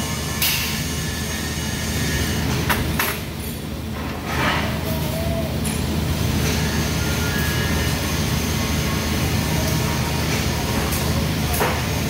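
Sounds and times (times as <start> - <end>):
welding arc hiss: 0.0 - 2.8, 4.8 - 12.0
low welder hum: 0.0 - 12.0.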